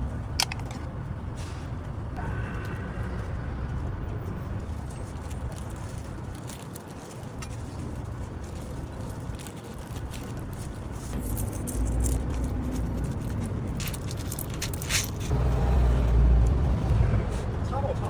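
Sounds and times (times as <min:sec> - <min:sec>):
passing motor traffic: 0:00.0 - 0:18.0.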